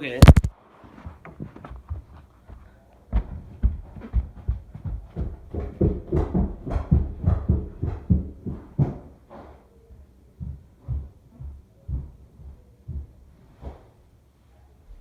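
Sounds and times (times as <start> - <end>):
quick footsteps thudding: 0.2 - 9.4, 10.4 - 14.0.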